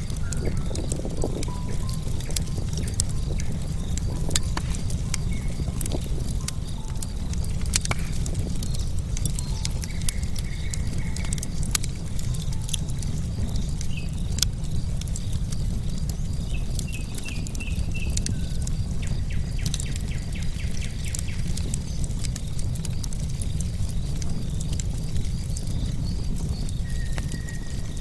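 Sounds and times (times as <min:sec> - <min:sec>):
birds chirping: 0:00.0 - 0:28.0
wood fire crackling and popping: 0:00.0 - 0:28.0.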